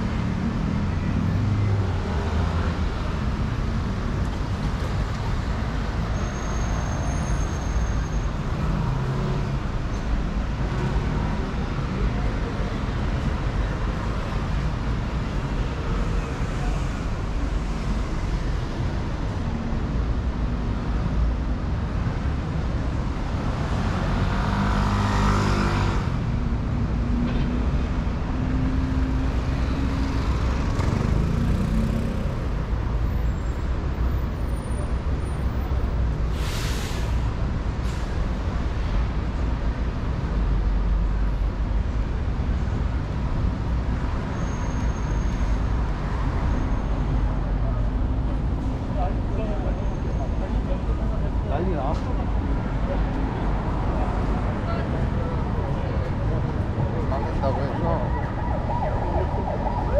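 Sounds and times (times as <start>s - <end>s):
cars and buses passing: 0.0s - 59.9s.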